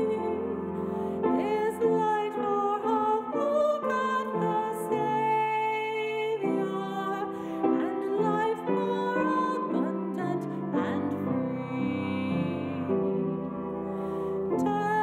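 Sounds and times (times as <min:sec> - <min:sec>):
woman singing a slow hymn: 0:00.0 - 0:13.6, 0:14.5 - 0:15.0.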